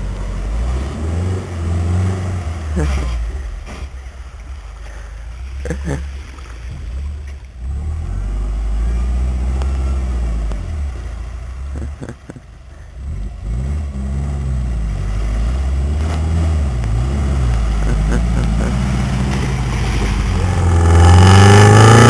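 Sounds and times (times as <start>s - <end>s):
car engine revving: 0.0s - 4.2s, 6.9s - 12.4s, 13.0s - 22.0s
water splashing around wheels: 0.0s - 22.0s.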